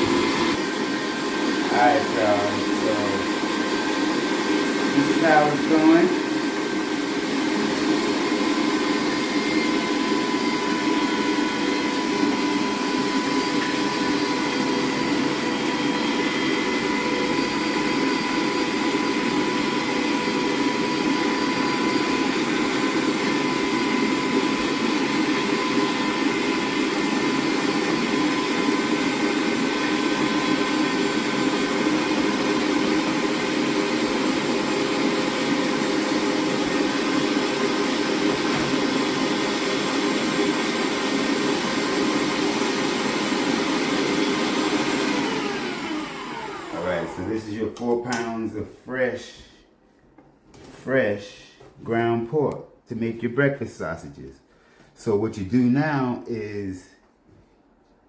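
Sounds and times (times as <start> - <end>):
electric meat grinder running: 0.0 - 47.4.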